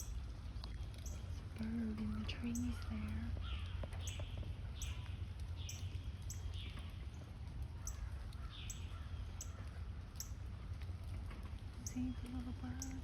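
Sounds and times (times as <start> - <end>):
birds chirping: 0.0 - 10.4, 11.8 - 13.0.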